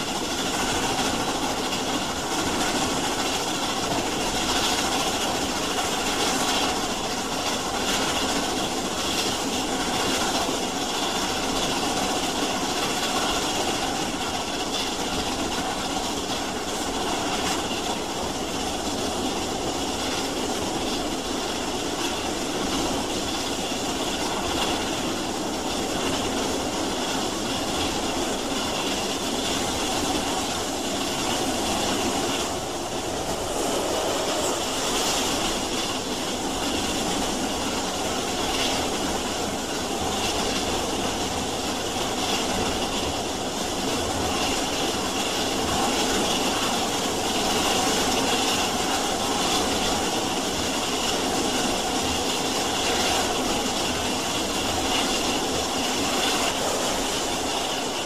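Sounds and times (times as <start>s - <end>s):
steam train running: 0.0s - 58.0s.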